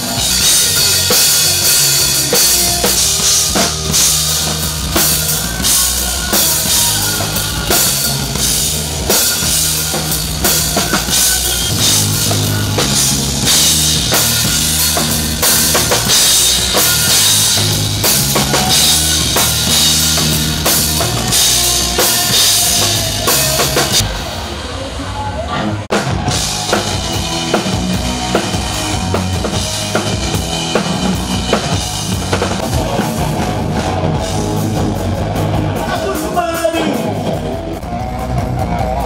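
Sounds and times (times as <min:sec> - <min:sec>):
drum kit playing a groove: 0:00.0 - 0:24.9, 0:25.8 - 0:39.0
band playing: 0:00.0 - 0:39.0.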